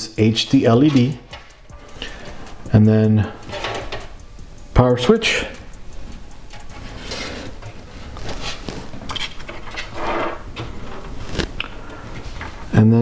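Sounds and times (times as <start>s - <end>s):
sharp ticks: 0.0s - 10.6s.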